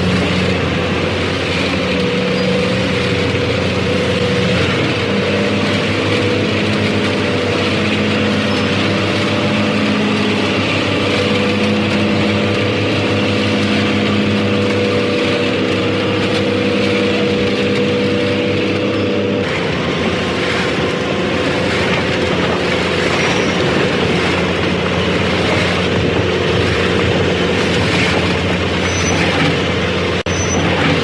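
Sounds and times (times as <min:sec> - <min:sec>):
harvester engine droning: 0:00.0 - 0:31.0.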